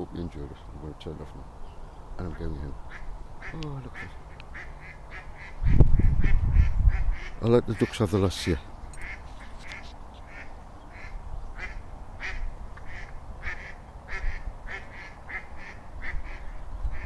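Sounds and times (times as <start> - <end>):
ducks quacking: 2.2 - 17.0.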